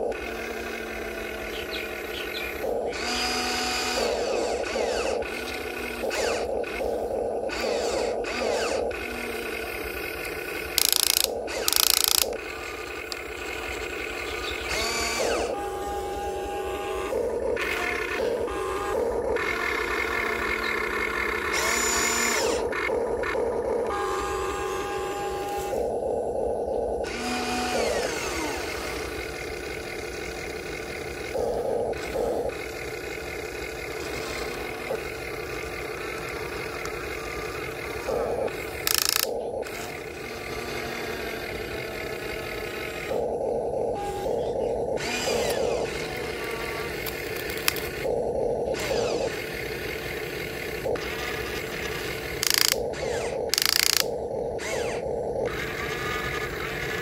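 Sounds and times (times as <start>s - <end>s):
small electric motors whirring: 0.0s - 57.0s.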